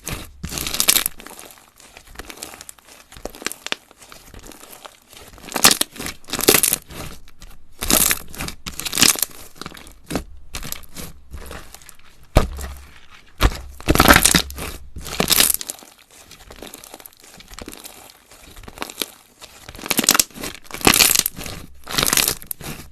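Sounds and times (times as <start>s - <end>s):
slime crackling and popping: 0.0s - 22.9s.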